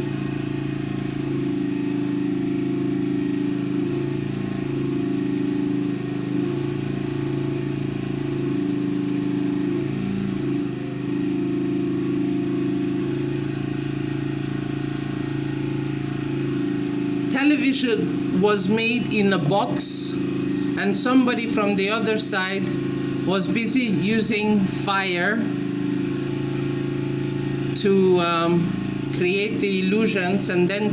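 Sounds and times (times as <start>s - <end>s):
motor droning: 0.0s - 30.9s.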